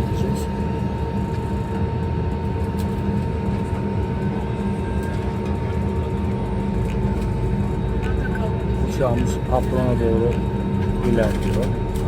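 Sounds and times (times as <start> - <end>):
jet engine high whine: 0.0 - 12.0
jet engine low rumble: 0.0 - 12.0.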